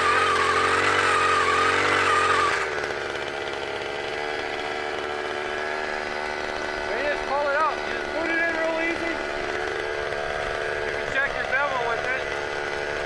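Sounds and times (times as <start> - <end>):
ice auger engine running: 0.0 - 13.0.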